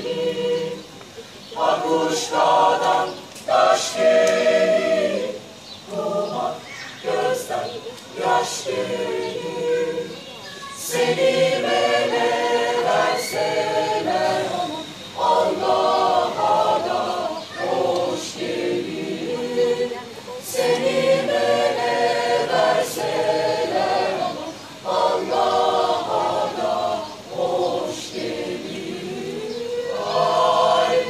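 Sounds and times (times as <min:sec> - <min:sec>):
mixed choir singing a cappella: 0:00.0 - 0:31.0.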